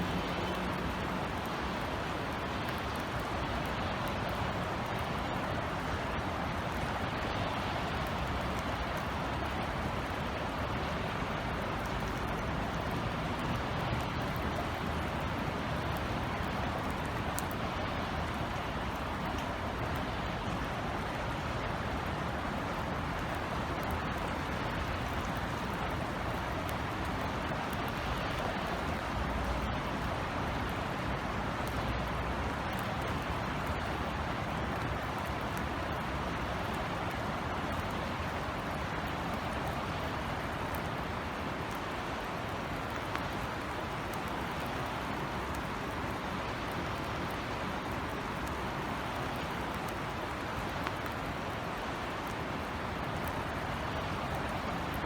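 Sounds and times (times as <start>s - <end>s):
distant city traffic rumble: 0.0s - 55.0s
raindrops ticking: 0.0s - 55.0s
steady rain falling: 0.0s - 55.0s.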